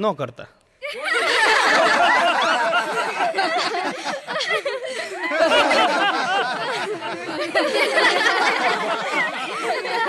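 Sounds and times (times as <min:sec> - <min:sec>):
audience laughing: 0:00.8 - 0:10.0.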